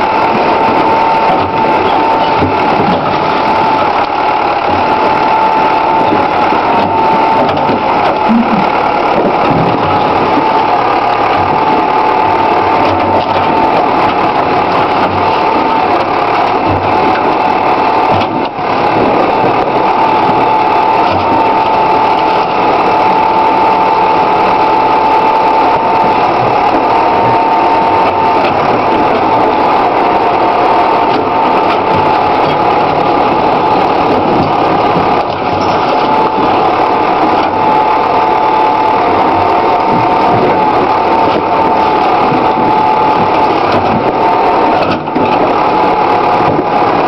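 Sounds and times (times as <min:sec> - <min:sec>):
backhoe engine running: 0:00.0 - 0:47.0
high-pitched hydraulic whine: 0:00.0 - 0:47.0.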